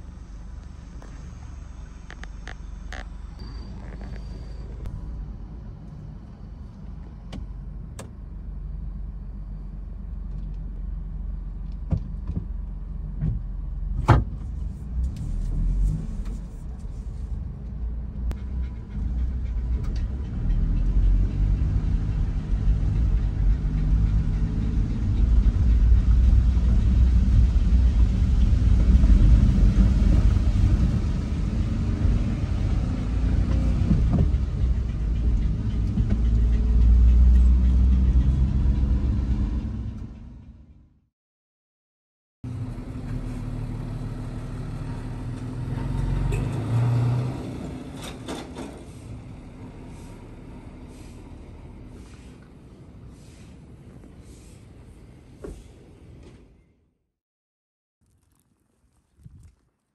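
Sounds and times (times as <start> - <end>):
car engine and tyres rumbling: 0.0 - 41.0, 42.4 - 56.6.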